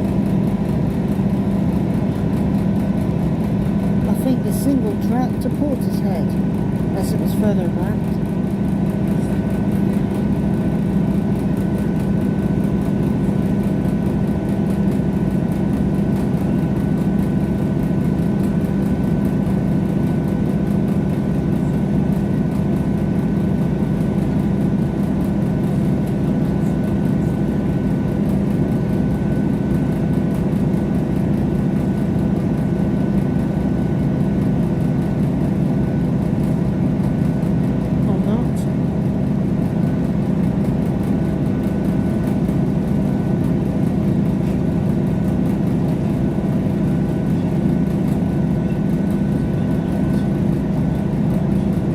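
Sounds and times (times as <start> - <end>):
train interior drone: 0.0 - 51.9.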